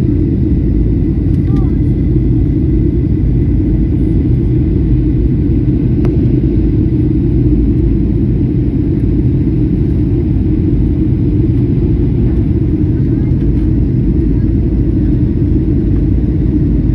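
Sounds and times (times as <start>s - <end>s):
jet airliner cabin rumble: 0.0s - 16.9s.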